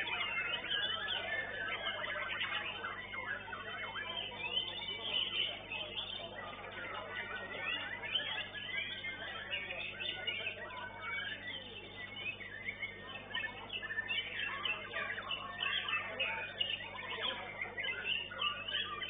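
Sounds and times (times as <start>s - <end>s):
songbirds chirping and whistling: 0.0s - 19.0s.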